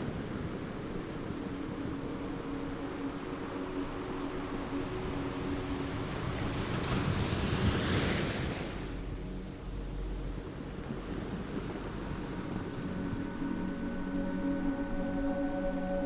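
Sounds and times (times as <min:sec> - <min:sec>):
ocean waves breaking: 0:00.0 - 0:15.4.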